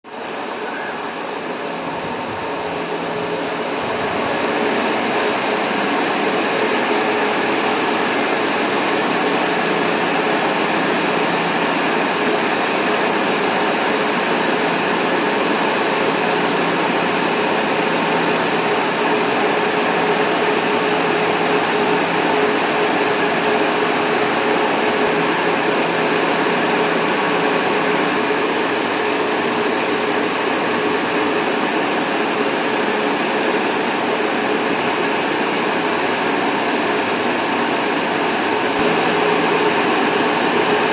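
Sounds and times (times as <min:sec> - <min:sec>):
machinery whirring and humming: 0:00.1 - 0:40.9.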